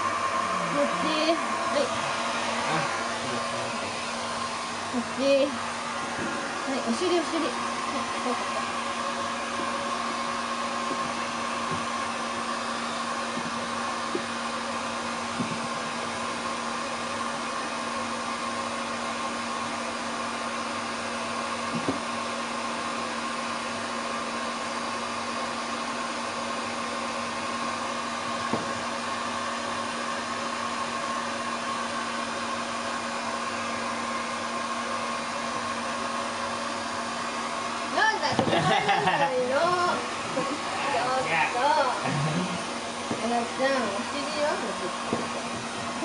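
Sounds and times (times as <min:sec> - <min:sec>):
hair dryer blowing: 0:00.0 - 0:46.0.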